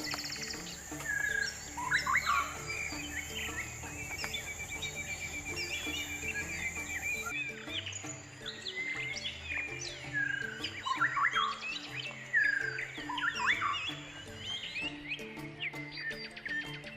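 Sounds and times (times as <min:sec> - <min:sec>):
high insect-like hiss: 0:00.0 - 0:14.4
bird chirps and whistles: 0:00.0 - 0:16.9
bird trill: 0:00.0 - 0:16.9
soft background music: 0:00.0 - 0:16.9.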